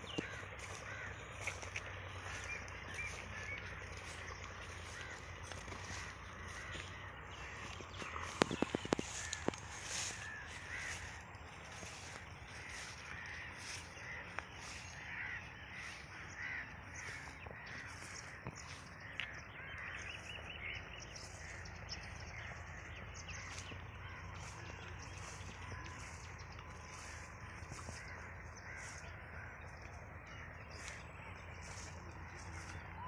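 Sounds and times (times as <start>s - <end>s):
birds calling: 0.0s - 33.0s
low steady rumble: 0.0s - 33.0s.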